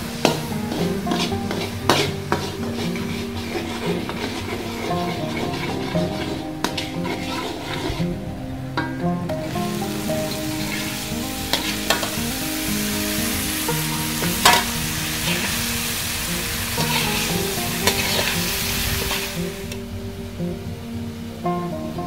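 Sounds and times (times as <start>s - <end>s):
vegetables sizzling in hot oil: 0.0s - 8.0s, 9.3s - 20.3s
metal spatula scraping a wok: 0.0s - 19.8s.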